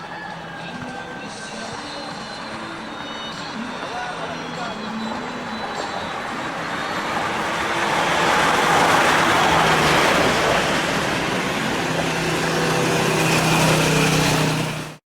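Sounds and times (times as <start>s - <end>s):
motorcycle engine hum: 0.0s - 15.0s.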